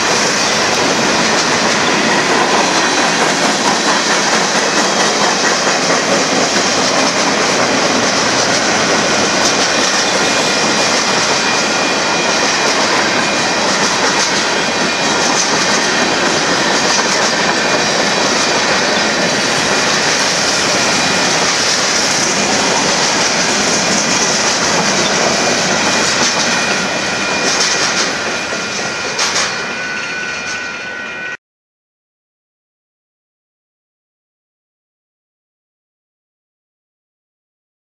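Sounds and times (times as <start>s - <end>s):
train wheels rushing on rail: 0.0s - 31.4s.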